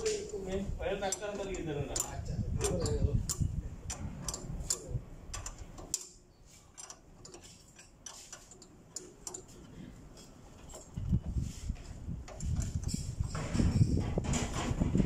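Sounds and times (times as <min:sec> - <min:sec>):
wrench clicking on a bolt: 0:00.0 - 0:11.3, 0:12.2 - 0:13.4.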